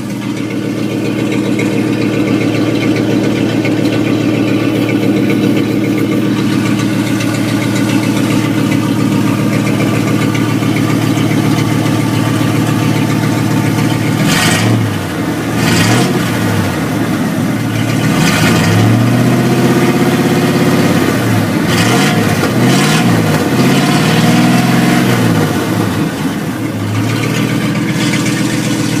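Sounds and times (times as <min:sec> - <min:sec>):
truck engine idling and revving: 0:00.0 - 0:29.0.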